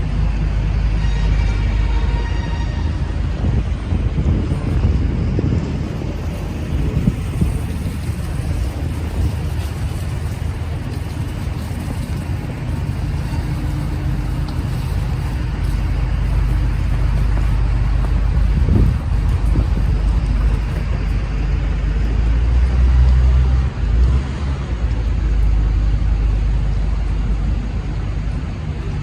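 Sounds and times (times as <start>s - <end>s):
rumble of traffic: 0.0s - 29.0s.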